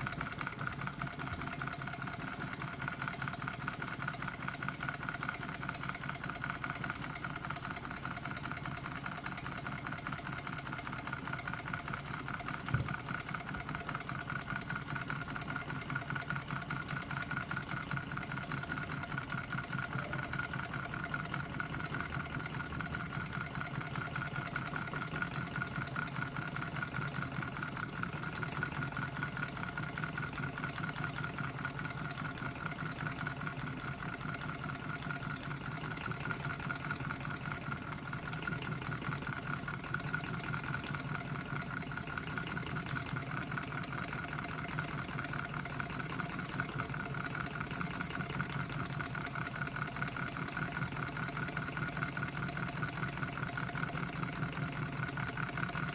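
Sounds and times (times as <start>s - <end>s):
steady mechanical hum: 0.0s - 55.9s
stirling engine ticking: 0.0s - 55.9s.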